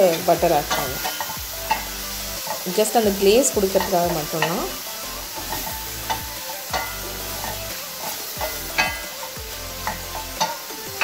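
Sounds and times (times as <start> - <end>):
mushrooms sizzling in frying pan: 0.0 - 11.0.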